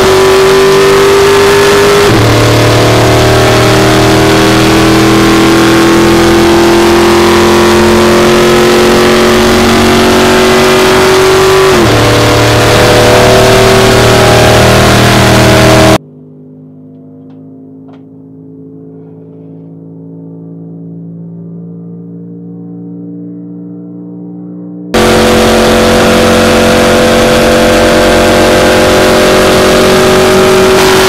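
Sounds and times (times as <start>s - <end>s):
race car engine at speed: 0.0s - 31.0s.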